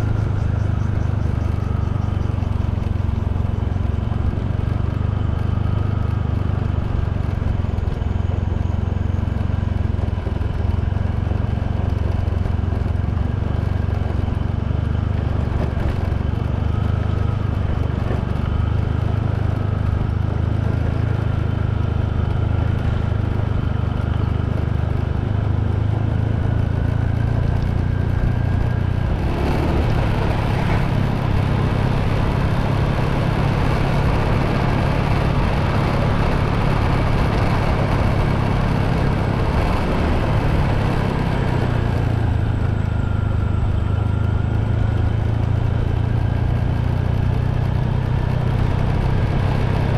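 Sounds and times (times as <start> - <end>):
motorbike engine running: 0.0 - 49.9.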